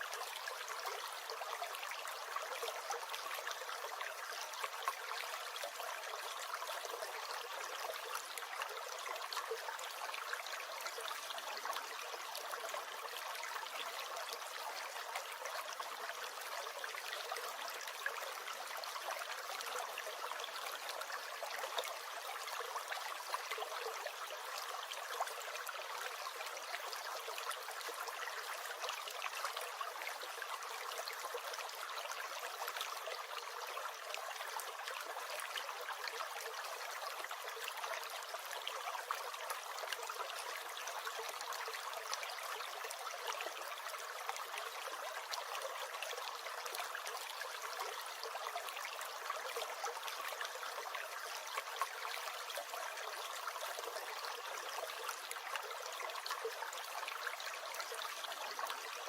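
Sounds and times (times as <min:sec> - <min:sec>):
stream gurgling and trickling: 0:00.0 - 0:59.0.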